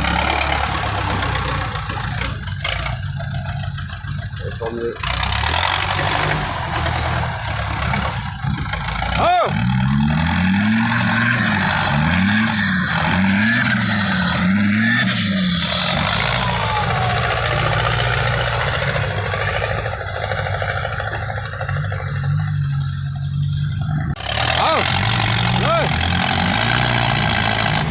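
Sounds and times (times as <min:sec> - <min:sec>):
diesel truck engine revving: 0:00.0 - 0:27.9.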